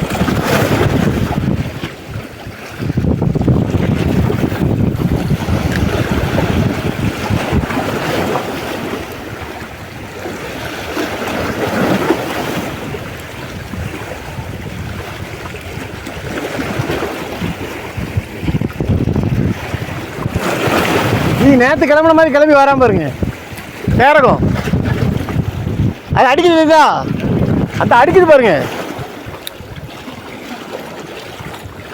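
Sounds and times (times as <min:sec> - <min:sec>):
sea waves washing: 0:00.0 - 0:31.9
wind buffeting the microphone: 0:00.0 - 0:31.9.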